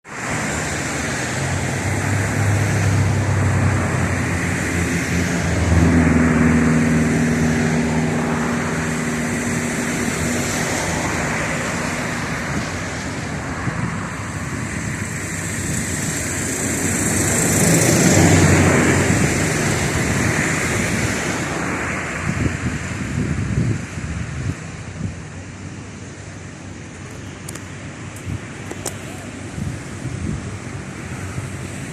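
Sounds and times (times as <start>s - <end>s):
jet engines roaring on takeoff: 0.0s - 31.9s
high fan whine: 0.1s - 31.9s.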